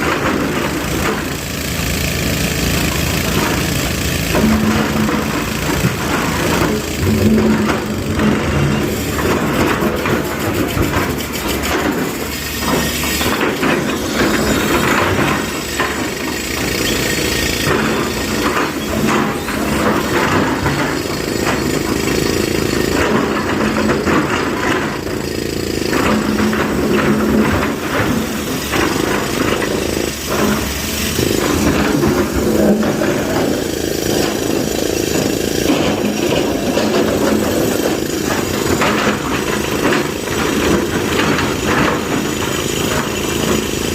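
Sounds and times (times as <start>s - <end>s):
heavy diesel engine running: 0.0s - 43.9s
knocks and clanks: 0.0s - 43.9s.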